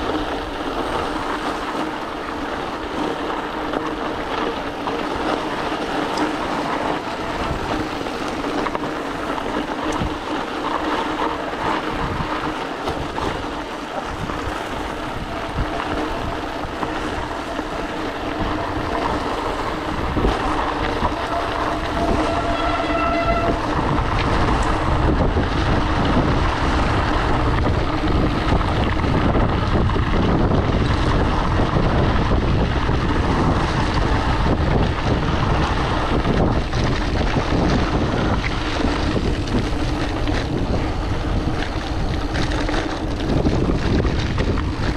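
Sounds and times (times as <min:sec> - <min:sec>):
bike rattling: 0:00.0 - 0:44.9
tyres crunching on gravel: 0:00.0 - 0:44.9
wind rumbling on microphone: 0:00.0 - 0:44.9.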